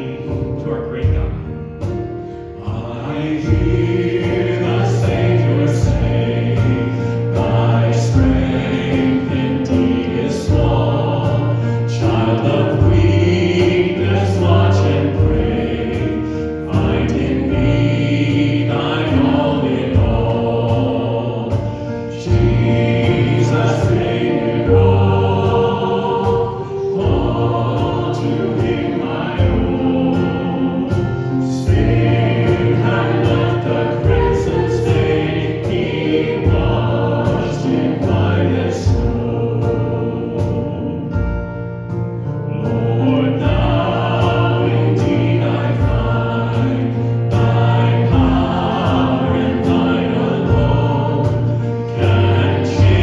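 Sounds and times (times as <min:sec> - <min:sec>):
congregation singing a hymn: 0:00.0 - 0:53.0
instrumental accompaniment: 0:00.0 - 0:53.0.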